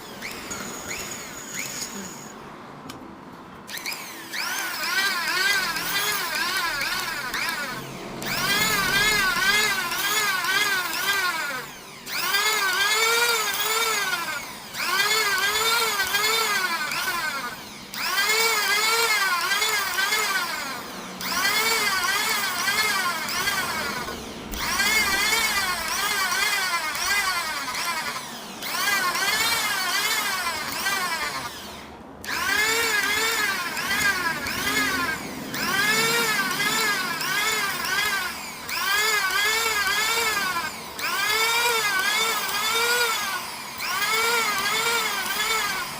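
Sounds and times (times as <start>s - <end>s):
power sander whining: 0.0s - 2.4s, 3.7s - 45.9s.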